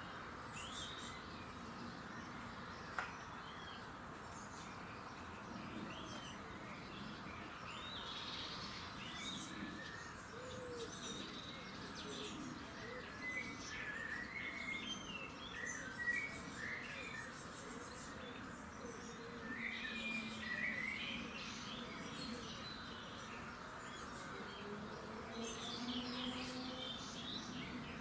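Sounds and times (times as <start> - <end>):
background hiss: 0.0 - 28.0
songbirds singing and chirping: 0.0 - 28.0.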